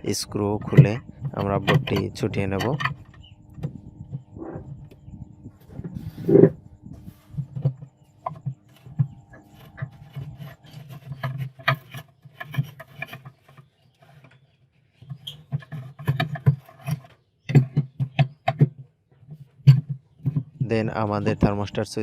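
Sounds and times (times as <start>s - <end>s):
plastic panel scraping and clicks: 0.3s - 20.6s.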